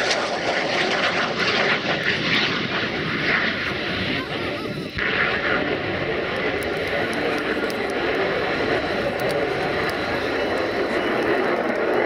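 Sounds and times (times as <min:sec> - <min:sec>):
jet engine in afterburner: 0:00.0 - 0:12.0.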